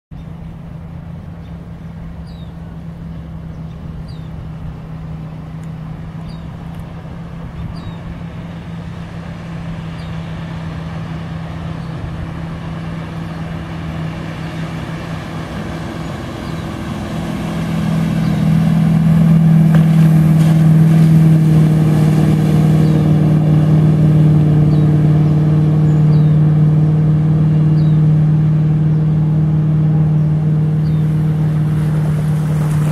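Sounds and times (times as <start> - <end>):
boat engine running: 0.1 - 32.9.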